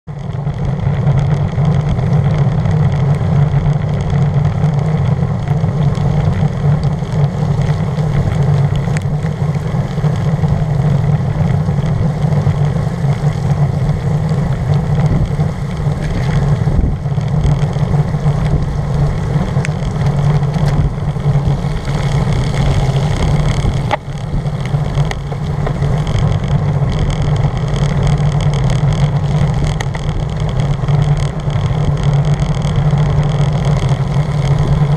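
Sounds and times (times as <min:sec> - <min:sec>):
wind and road noise: 0:00.0 - 0:34.9.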